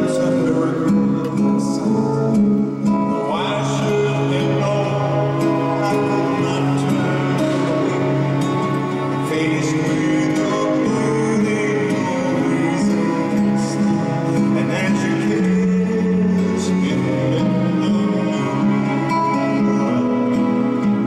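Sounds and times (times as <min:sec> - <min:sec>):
band playing slow ballad: 0:00.0 - 0:21.0
guitar: 0:00.0 - 0:21.0
man singing: 0:00.0 - 0:21.0.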